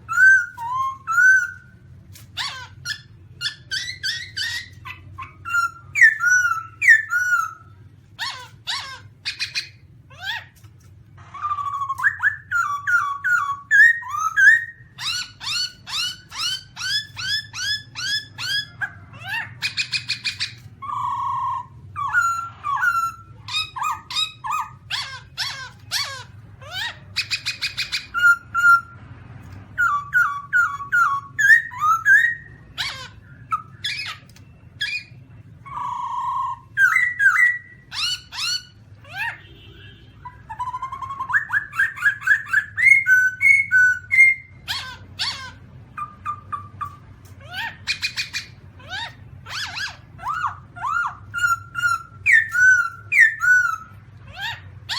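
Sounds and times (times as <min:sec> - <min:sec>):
bird whistled calls: 0:00.0 - 0:10.6, 0:11.2 - 0:29.0, 0:29.7 - 0:54.9
faint low hum: 0:00.0 - 0:54.9.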